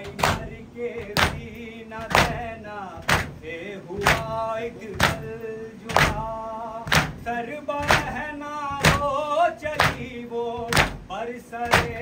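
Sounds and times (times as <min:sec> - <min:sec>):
hands striking chests in unison: 0:00.0 - 0:03.4, 0:04.0 - 0:05.3, 0:05.9 - 0:09.2, 0:09.8 - 0:12.0
lament chanting: 0:00.0 - 0:12.0.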